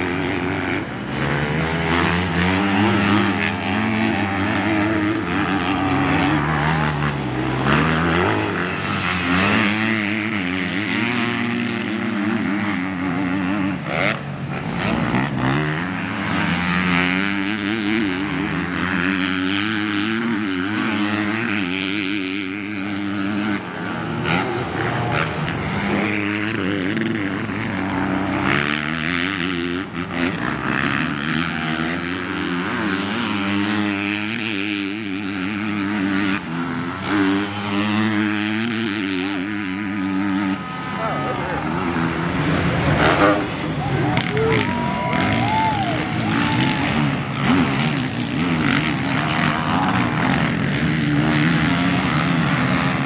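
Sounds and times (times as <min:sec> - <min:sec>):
motocross bike engines revving: 0:00.0 - 0:53.0.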